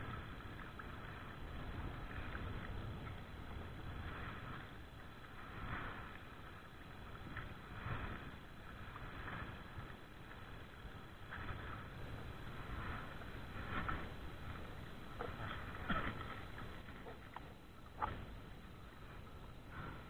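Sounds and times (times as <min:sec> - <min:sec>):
paddles swishing through water: 0:00.0 - 0:20.0
wind rumble on microphone: 0:00.0 - 0:20.0.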